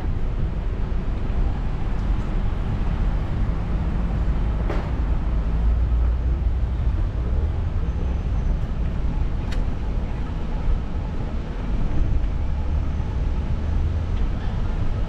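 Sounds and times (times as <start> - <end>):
wind and bike riding rumble: 0.0 - 15.0.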